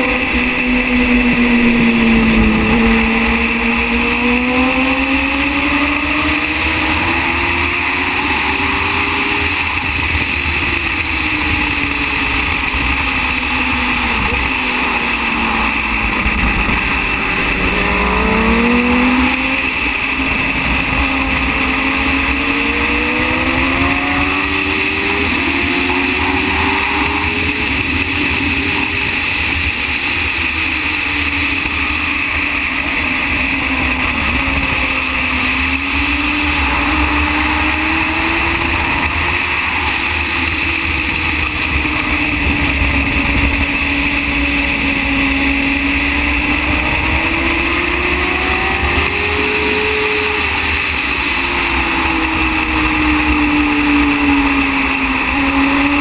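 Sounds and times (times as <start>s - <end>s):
racing motorcycle engine: 0.0s - 56.0s
steady rushing noise: 0.0s - 56.0s.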